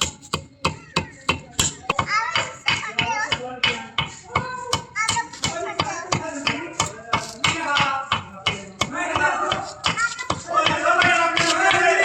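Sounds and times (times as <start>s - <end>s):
rapid sharp knocks: 0.0s - 11.9s
voices: 0.0s - 12.0s.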